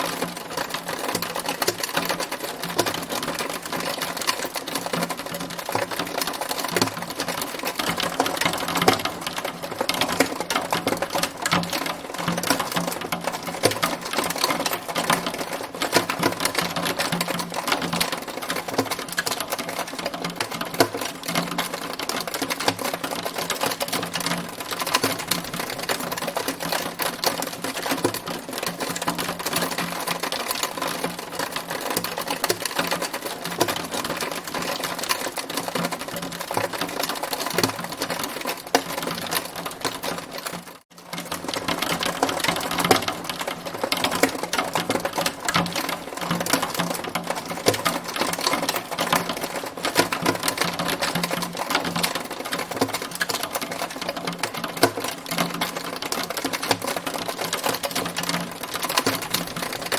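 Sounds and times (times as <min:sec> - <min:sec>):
hailstones pelting a hard surface: 0:00.0 - 0:59.9.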